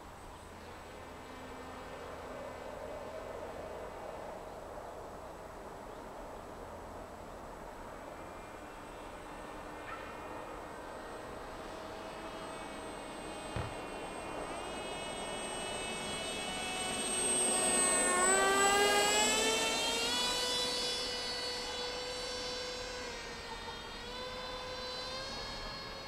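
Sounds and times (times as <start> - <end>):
model plane propeller whining: 0.0 - 26.0.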